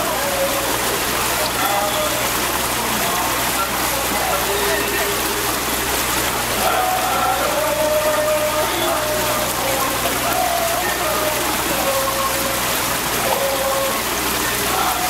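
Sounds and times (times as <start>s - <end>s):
indistinct voices: 0.0s - 15.0s
water rushing along boat hull: 0.0s - 15.0s.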